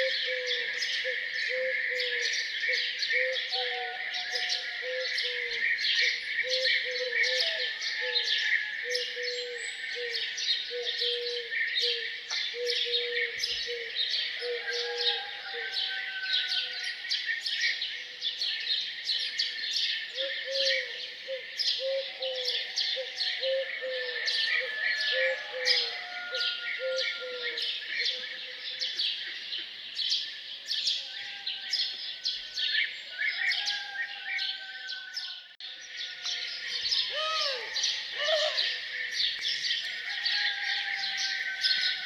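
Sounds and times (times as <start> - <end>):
songbirds chirping and singing: 0.0 - 42.0.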